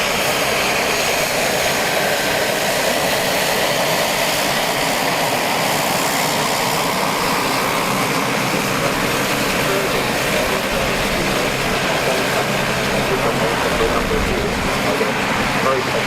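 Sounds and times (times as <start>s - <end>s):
aircraft engine noise: 0.0s - 16.0s.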